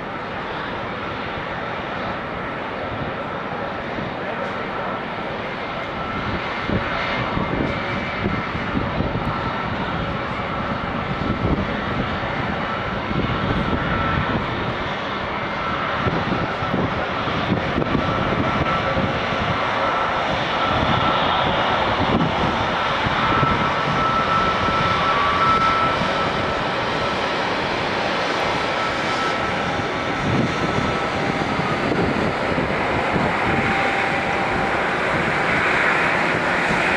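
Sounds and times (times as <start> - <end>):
jet engines running: 0.0 - 36.9.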